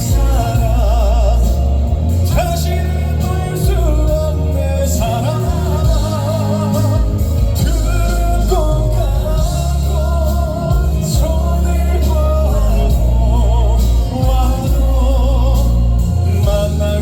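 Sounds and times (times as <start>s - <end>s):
amplified band with heavy bass: 0.0s - 17.0s
man singing with vibrato: 0.0s - 17.0s.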